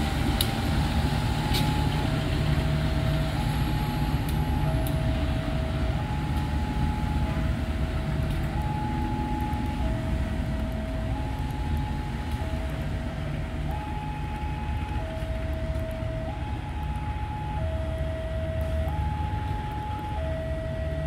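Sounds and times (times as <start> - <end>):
low engine rumble: 0.0 - 21.0
two-tone siren: 0.0 - 21.0.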